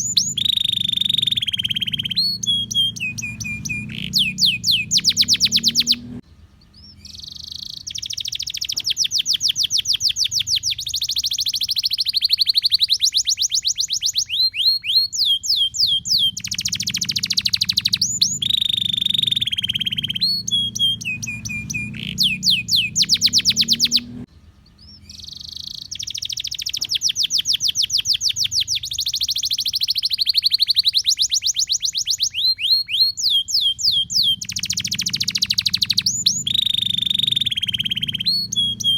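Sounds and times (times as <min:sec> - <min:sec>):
canary singing trills: 0:00.0 - 0:38.9
faint low hum: 0:00.0 - 0:38.9.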